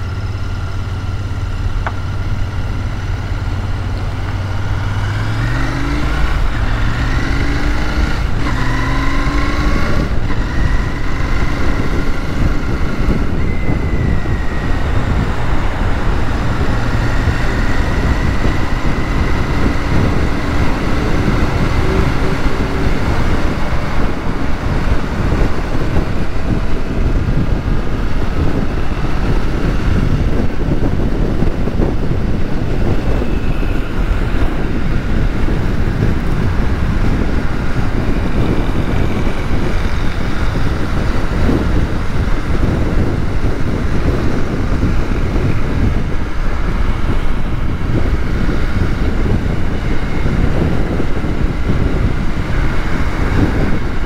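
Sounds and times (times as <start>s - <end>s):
motorcycle engine accelerating: 0.0s - 54.0s
wind and road noise: 0.0s - 54.0s.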